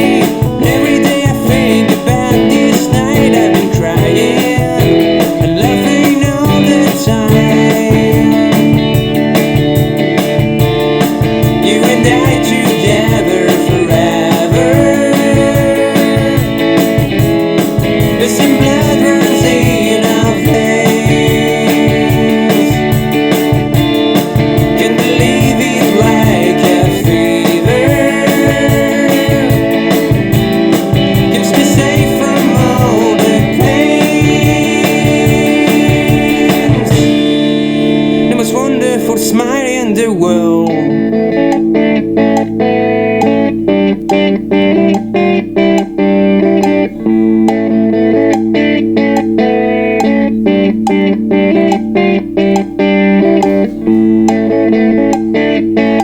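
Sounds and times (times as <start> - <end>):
steady drum beat: 0.0 - 39.3, 43.2 - 56.0
band playing guitar and organ: 0.0 - 56.0.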